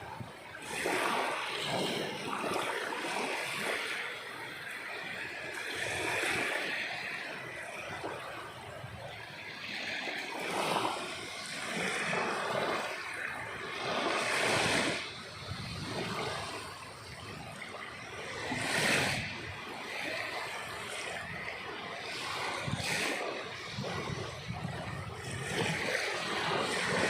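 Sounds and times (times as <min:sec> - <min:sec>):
sea waves breaking: 0:00.0 - 0:27.0.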